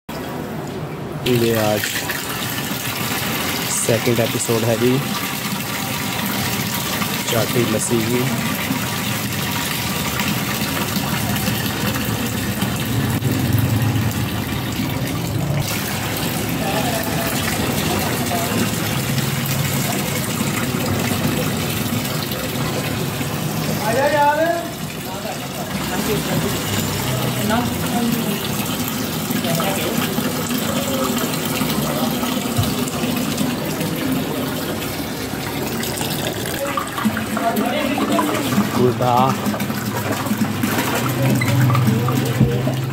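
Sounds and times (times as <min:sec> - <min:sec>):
liquid pouring into steel drum: 0:01.3 - 0:42.9.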